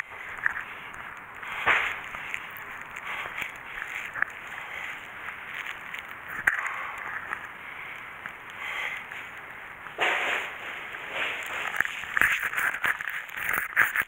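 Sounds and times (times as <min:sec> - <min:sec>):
plastic wrap crinkling: 0:00.0 - 0:14.0.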